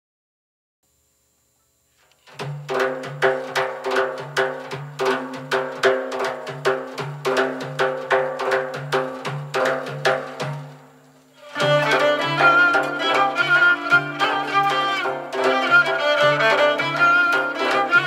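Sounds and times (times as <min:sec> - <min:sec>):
frame drum rhythm: 0:02.2 - 0:18.0.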